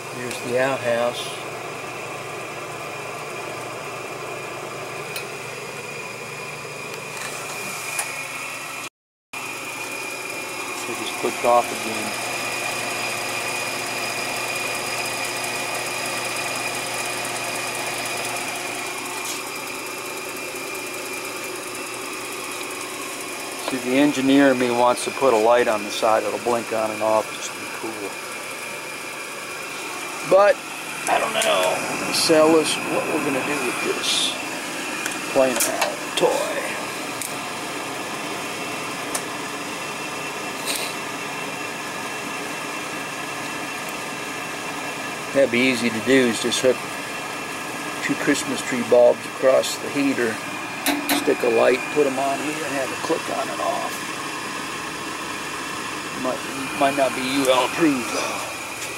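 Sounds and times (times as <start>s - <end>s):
blower motor humming and whining: 0.0s - 58.9s.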